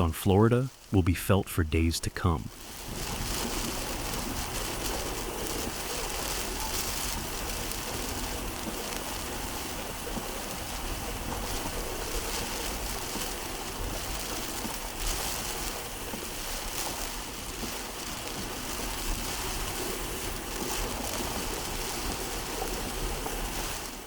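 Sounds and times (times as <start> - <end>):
steady wind: 0.0 - 24.0
rushing water: 2.5 - 24.0.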